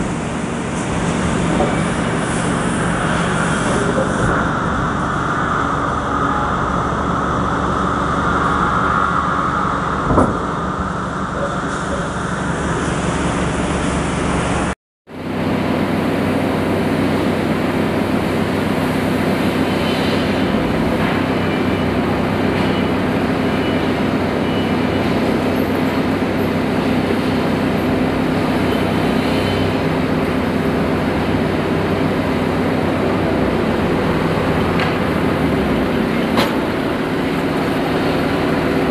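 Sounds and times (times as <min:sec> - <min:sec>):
forklift engine droning: 0:00.0 - 0:38.9.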